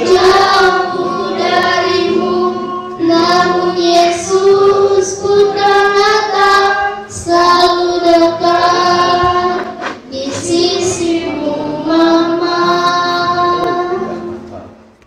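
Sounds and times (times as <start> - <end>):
children singing slow song: 0.0 - 14.9.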